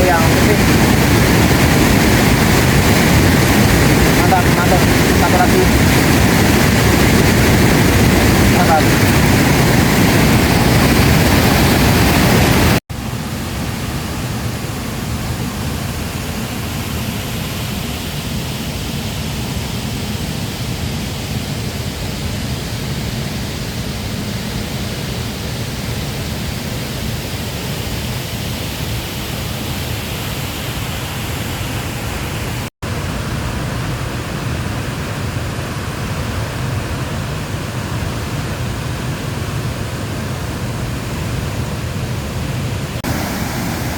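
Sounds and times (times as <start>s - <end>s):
waterfall and river rushing: 0.0s - 43.9s.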